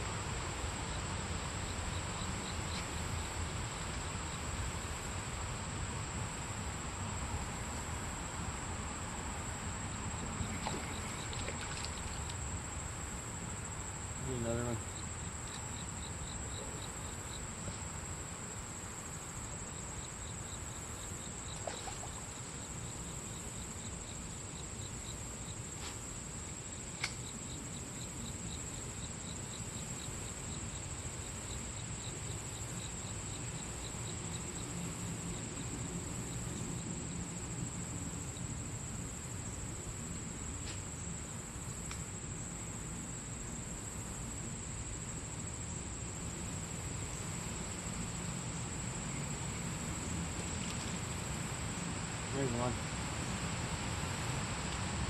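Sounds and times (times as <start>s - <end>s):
cricket chirps: 0.0s - 55.0s
insects buzzing: 0.0s - 55.0s.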